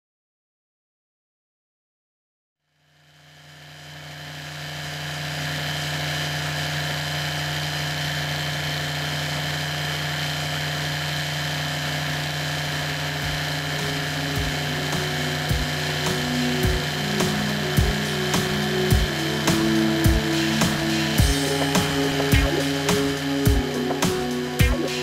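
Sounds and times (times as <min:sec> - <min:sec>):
aircraft engine and propeller: 0:03.6 - 0:25.0.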